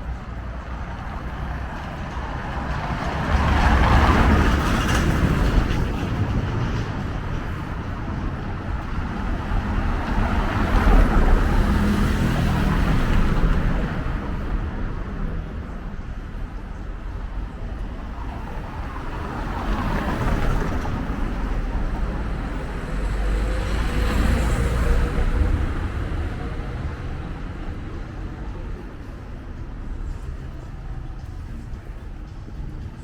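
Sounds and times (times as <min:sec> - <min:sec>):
low traffic rumble: 0:00.0 - 0:33.0.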